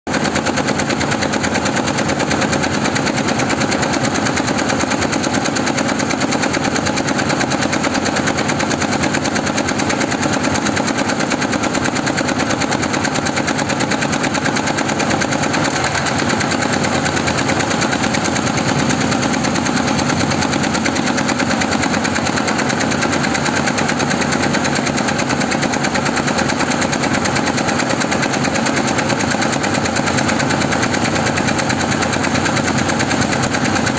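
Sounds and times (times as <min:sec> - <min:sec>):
embroidery machine stitching: 0:00.1 - 0:33.9.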